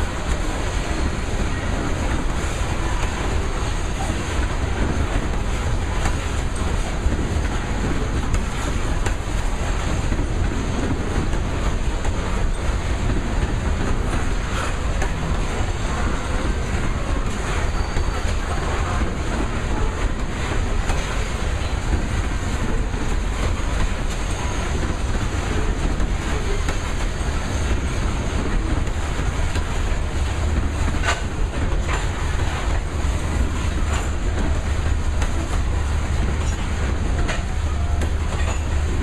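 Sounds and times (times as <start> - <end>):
steel wheels rumbling on rail: 0.0 - 39.0
wheels clicking over rail joints: 0.0 - 39.0.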